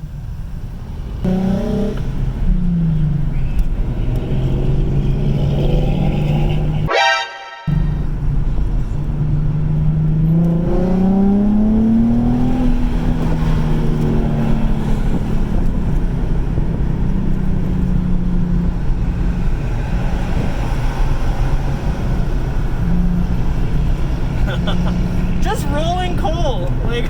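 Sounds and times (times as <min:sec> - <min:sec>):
car engine accelerating: 0:00.0 - 0:06.9, 0:07.7 - 0:27.0.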